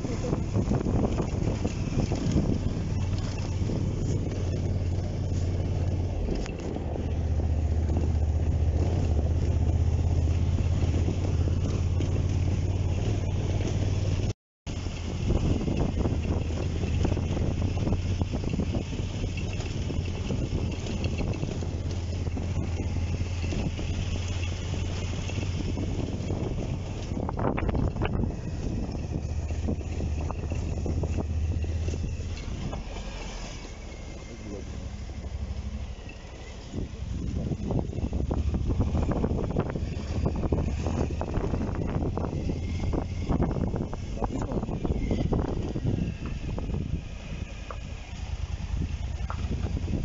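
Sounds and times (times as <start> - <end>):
motorcycle engine running: 0.0 - 50.0
wind noise: 0.0 - 50.0.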